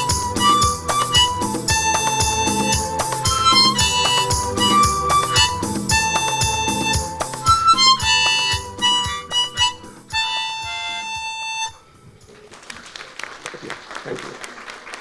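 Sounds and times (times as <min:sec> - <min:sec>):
harmonica melody: 0:00.0 - 0:12.2
steady low beat: 0:00.0 - 0:12.3.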